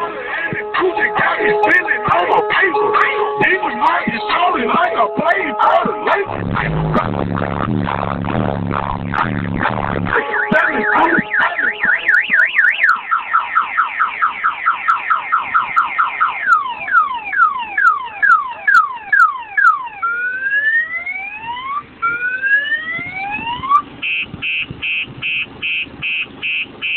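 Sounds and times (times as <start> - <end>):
car alarm siren: 0.0 - 6.5, 10.0 - 26.9.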